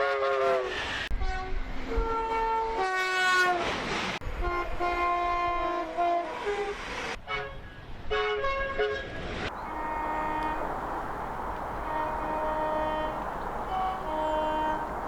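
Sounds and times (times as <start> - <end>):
train horn blasts: 0.0 - 15.0.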